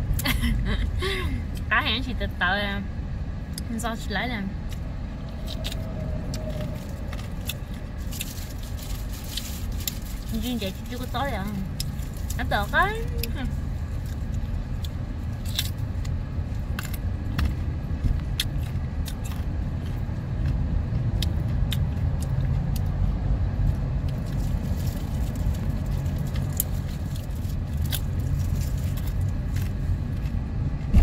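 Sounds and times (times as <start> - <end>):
low car rumble: 0.0 - 31.0.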